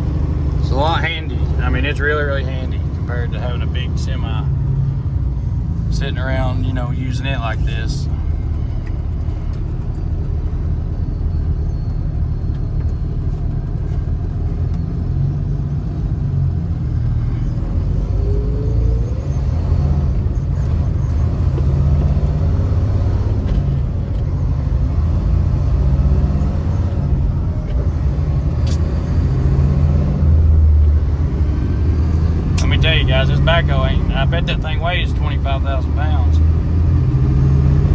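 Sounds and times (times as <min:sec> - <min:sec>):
truck engine running under load: 0:00.0 - 0:37.9.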